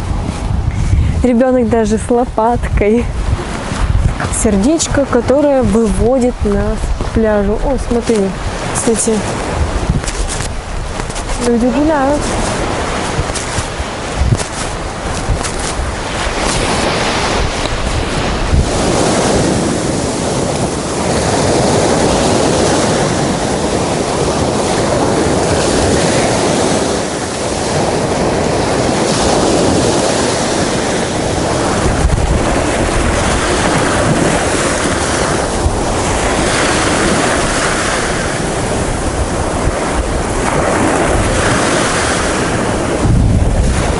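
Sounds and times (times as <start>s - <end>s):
wind buffeting microphone: 0.0s - 43.9s
small waves breaking on sand: 3.0s - 43.9s.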